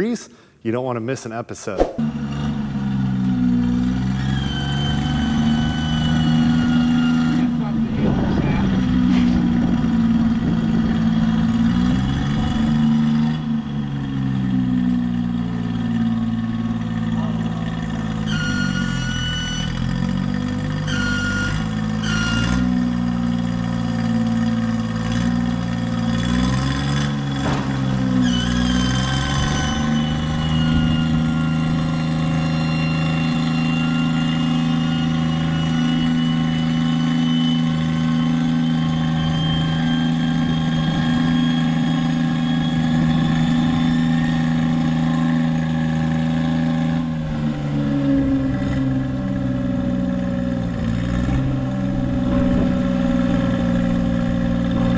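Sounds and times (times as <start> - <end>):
engine running: 2.1 - 54.9.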